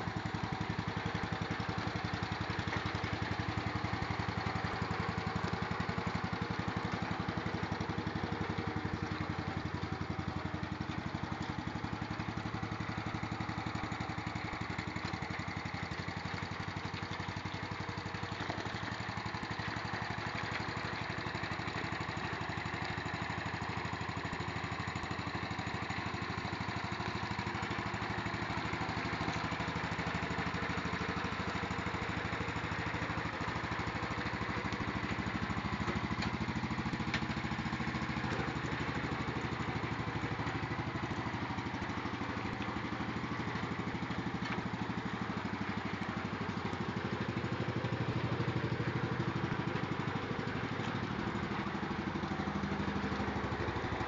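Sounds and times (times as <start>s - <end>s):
small tractor engine running: 0.0s - 54.0s.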